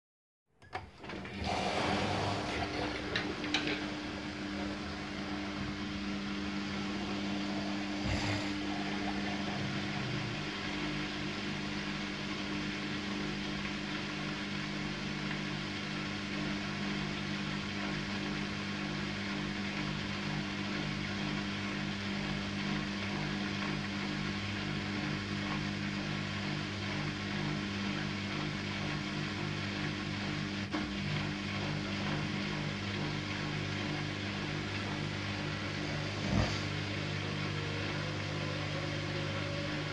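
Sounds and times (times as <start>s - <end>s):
washing machine humming: 0.5s - 39.9s.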